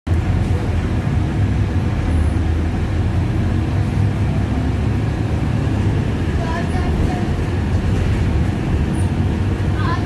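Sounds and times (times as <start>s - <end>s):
vehicle low rumble: 0.1s - 10.0s.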